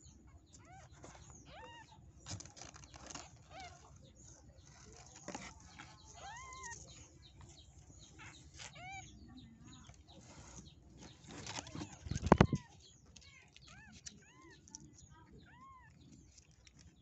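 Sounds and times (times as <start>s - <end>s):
kittens squeaking: 0.0s - 17.0s.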